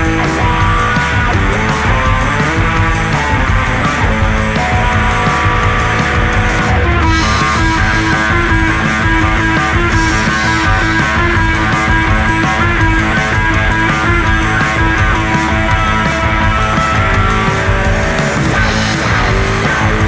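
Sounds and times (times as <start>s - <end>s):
rock music with guitars: 0.0s - 20.0s.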